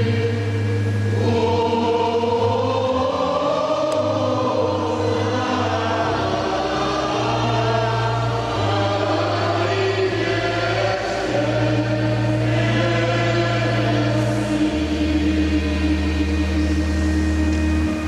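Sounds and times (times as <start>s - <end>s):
church choir singing: 0.0s - 18.0s
low sustained accompaniment: 0.0s - 18.0s.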